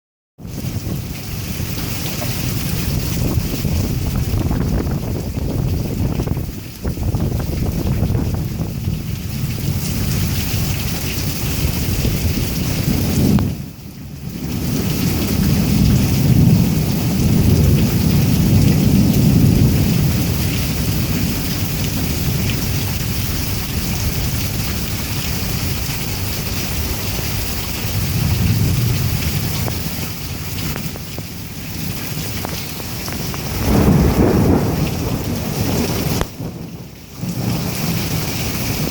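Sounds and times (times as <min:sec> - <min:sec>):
rolling thunder rumbling: 0:00.4 - 0:38.9
rain hissing: 0:00.5 - 0:38.9.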